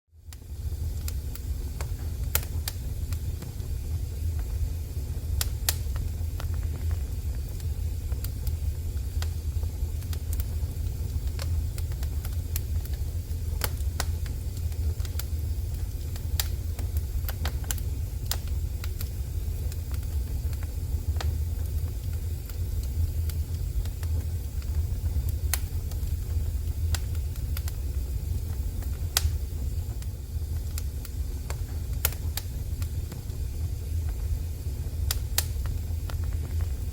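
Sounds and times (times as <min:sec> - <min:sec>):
wood fire crackling and popping: 0:00.1 - 0:36.9.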